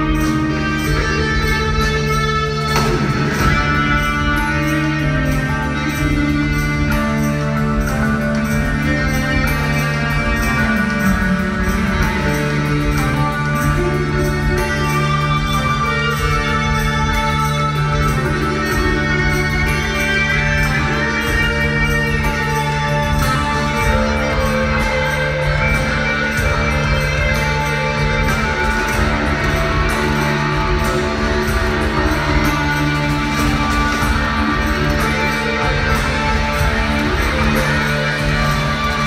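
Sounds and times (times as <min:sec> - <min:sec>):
drums: 0:00.0 - 0:39.0
electric guitar: 0:00.0 - 0:39.0
keyboard notes: 0:00.0 - 0:39.0.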